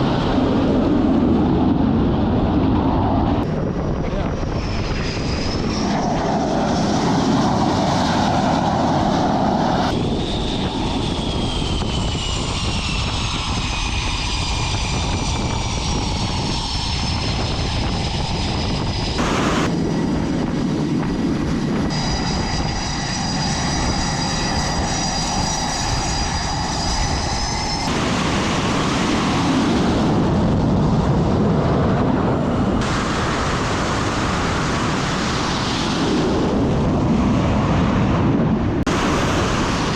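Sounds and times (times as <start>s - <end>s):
jet engines rushing and whining: 0.0s - 39.9s.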